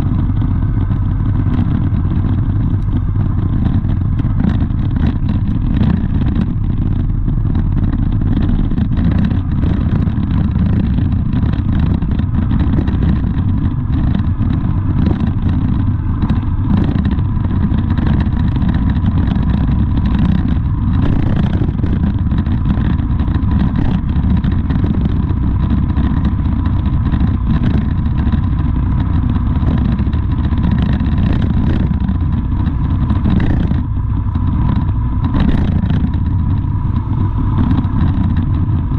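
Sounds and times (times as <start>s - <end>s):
road vehicle rumble: 0.0s - 38.9s.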